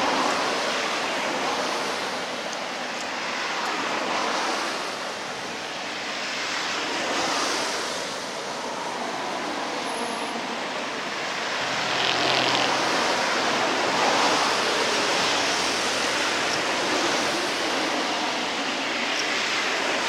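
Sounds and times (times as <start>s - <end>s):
steady outdoor rushing noise: 0.0s - 20.0s.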